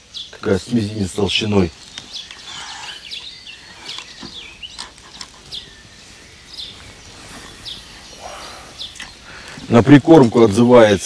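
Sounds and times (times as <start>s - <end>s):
birds chirping: 0.0s - 11.0s
outdoor background hiss: 0.0s - 11.0s.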